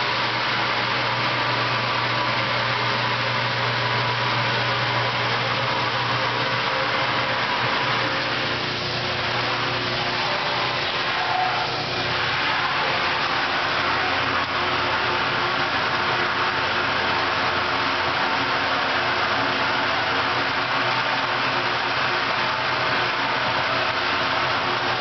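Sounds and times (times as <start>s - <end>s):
washing machine motor hum: 0.0s - 25.0s
water rushing: 0.0s - 25.0s.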